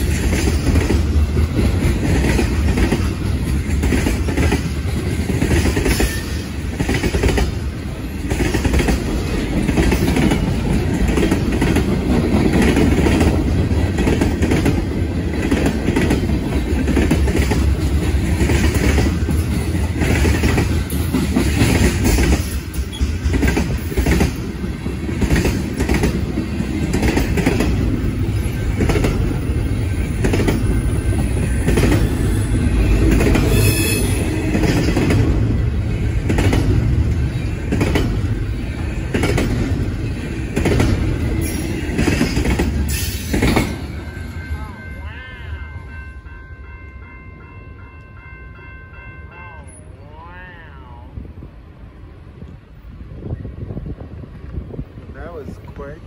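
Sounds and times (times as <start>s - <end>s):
wheels clattering on rails: 0.0s - 45.1s
freight train rumbling past: 0.0s - 56.0s.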